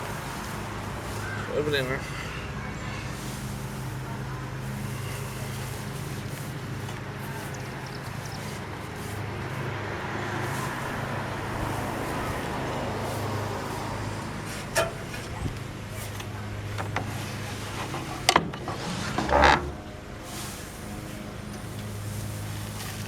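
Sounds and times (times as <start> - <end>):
road traffic noise: 0.0 - 23.0
vehicle engine humming: 0.0 - 23.0.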